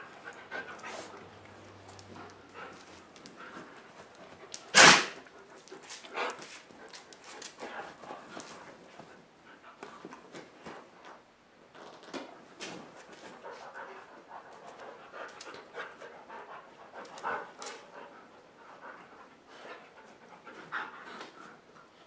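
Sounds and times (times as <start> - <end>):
dogs panting: 0.0 - 4.6, 5.2 - 10.9, 13.1 - 22.0.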